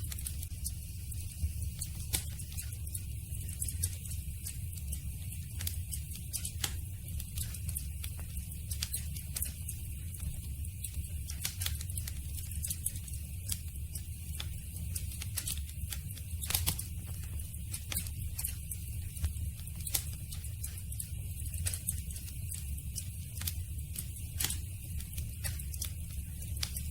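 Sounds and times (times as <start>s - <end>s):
low rumble of flames: 0.0s - 26.9s
wood crackling and popping: 0.0s - 26.9s.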